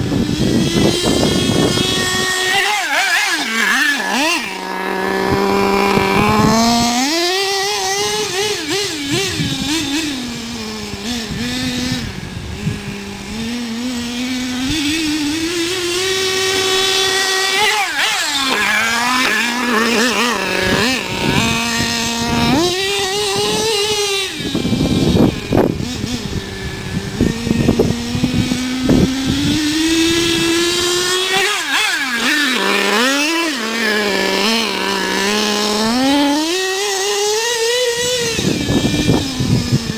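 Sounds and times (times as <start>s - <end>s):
model nitro engine revving: 0.0s - 39.9s.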